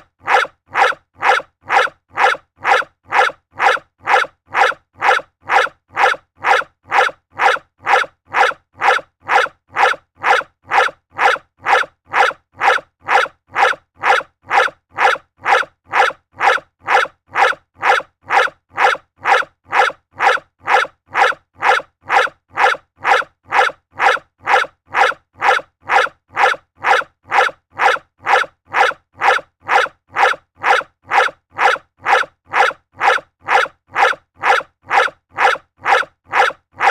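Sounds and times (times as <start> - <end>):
dog barking: 0.0 - 36.9.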